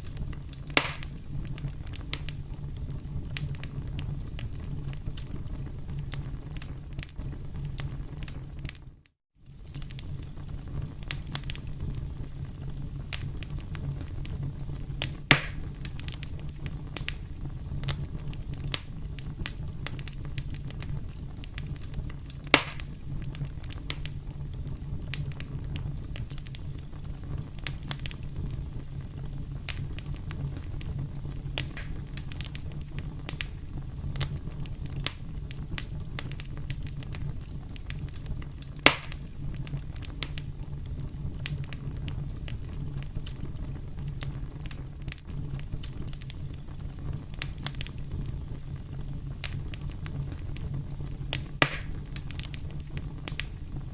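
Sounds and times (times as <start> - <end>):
campfire crackling: 0.0 - 53.9
sharp fire pops: 0.0 - 53.9.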